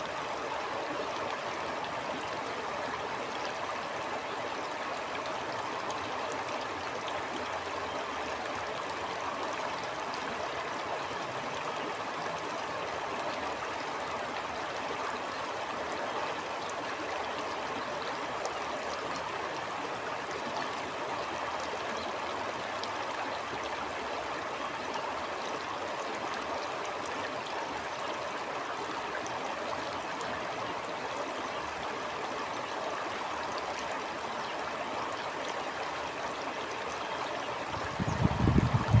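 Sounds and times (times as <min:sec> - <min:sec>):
stream flowing over rocks: 0:00.0 - 0:39.0.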